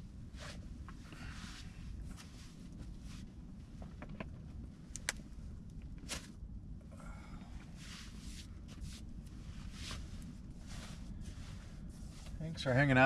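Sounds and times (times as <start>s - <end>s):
soft rustling: 0.3s - 6.4s, 7.6s - 13.0s.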